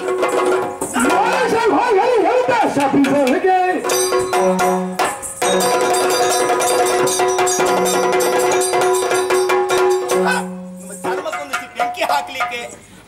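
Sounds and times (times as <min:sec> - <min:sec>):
drums beating fast: 0:00.0 - 0:12.9.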